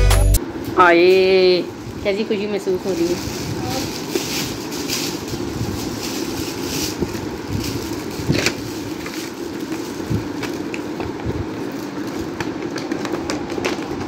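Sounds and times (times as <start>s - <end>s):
steady background hum: 0.0s - 14.0s
foil gift wrap crinkling: 1.8s - 14.0s.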